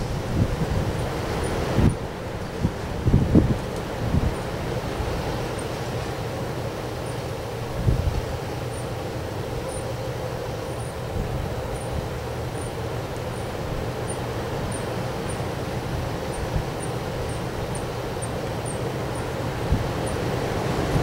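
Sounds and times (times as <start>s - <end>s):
strong wind buffeting microphone: 0.0s - 5.9s, 7.5s - 8.5s, 10.2s - 18.2s, 18.9s - 21.0s.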